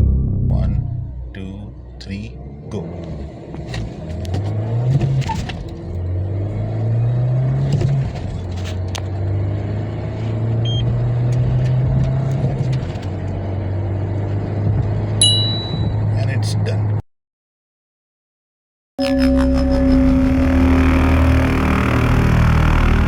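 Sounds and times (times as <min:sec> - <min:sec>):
car engine accelerating: 0:00.0 - 0:15.2, 0:19.0 - 0:23.0.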